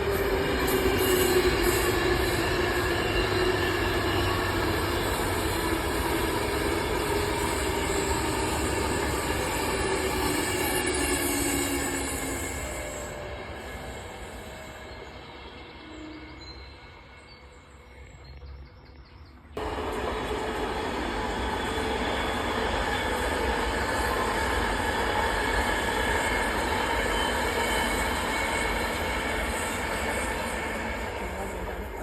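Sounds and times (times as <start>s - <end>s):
train wheels rushing on rails: 0.0s - 17.8s, 19.6s - 32.0s
electric train whine: 0.0s - 32.0s.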